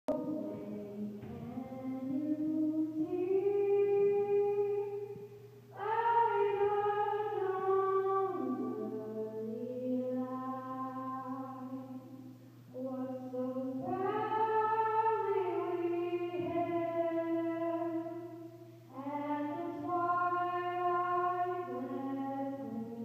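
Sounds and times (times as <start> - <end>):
girl singing into a microphone: 0.1 - 12.1, 12.7 - 23.0
steady low hum: 0.1 - 23.0.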